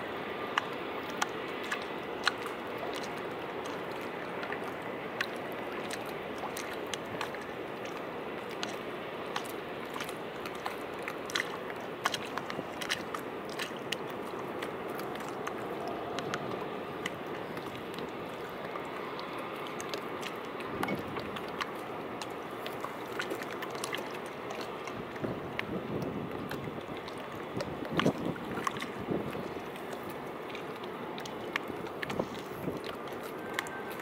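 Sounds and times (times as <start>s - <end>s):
seawater lapping against steps: 0.0s - 34.0s.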